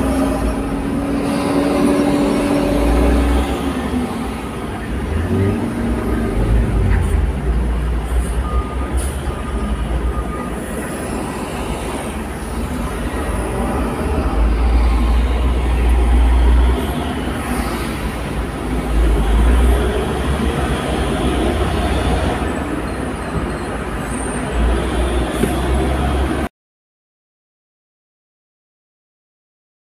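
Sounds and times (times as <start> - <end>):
car engine and tyres rumbling: 0.0 - 26.5.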